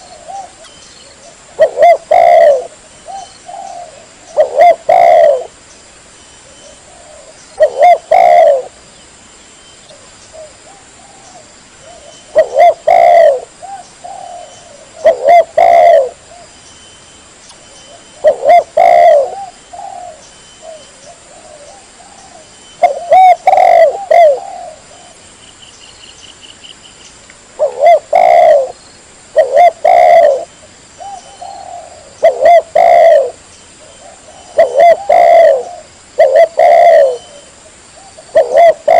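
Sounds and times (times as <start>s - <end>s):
dove cooing: 0.0s - 5.6s, 6.4s - 8.8s, 9.9s - 16.5s, 17.9s - 25.2s, 27.6s - 38.9s.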